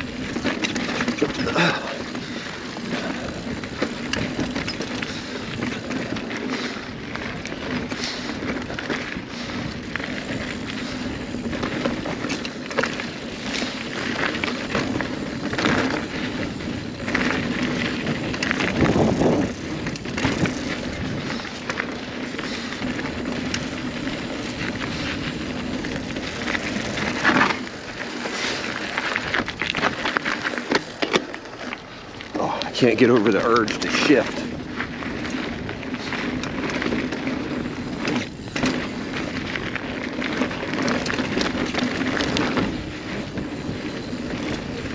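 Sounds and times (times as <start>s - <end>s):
bike clattering over rocks: 0.0s - 44.9s
bike tyres rolling on dirt: 0.0s - 44.9s.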